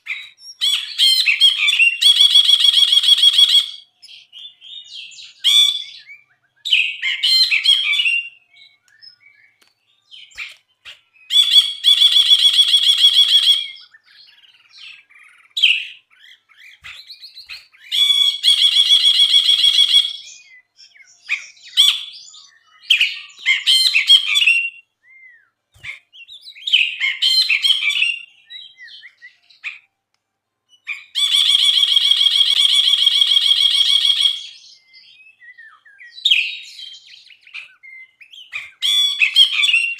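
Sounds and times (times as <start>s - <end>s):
bird chattering song: 0.0s - 29.9s, 30.7s - 39.9s.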